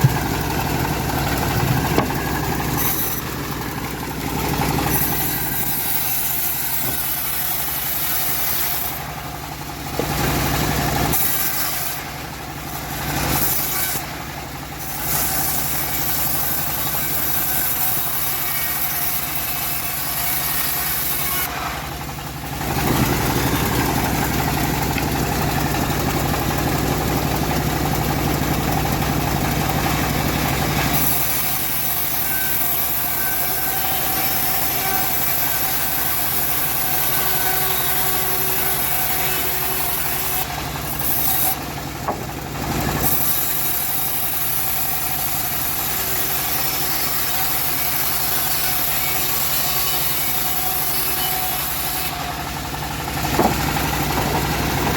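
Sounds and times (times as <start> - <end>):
bandsaw mill machine drone: 0.0 - 54.9.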